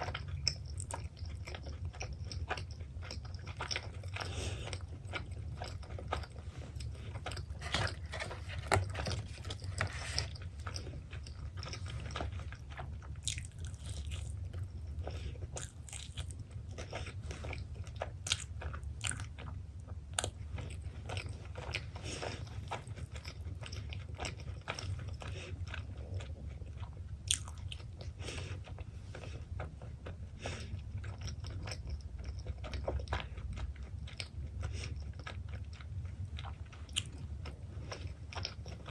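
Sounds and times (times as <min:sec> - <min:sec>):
chewing crunchy food: 0:00.0 - 0:38.9
steady low hum: 0:00.0 - 0:38.9.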